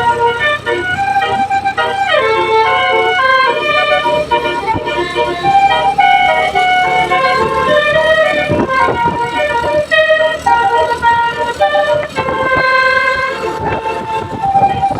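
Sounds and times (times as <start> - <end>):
bus horn playing a melody: 0.0 - 14.9.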